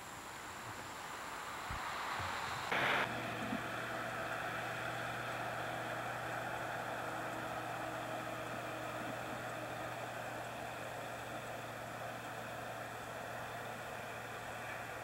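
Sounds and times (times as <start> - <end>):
outdoor hiss: 0.0 - 15.0
loud burst of noise: 1.9 - 15.0
steady low hum: 2.4 - 15.0.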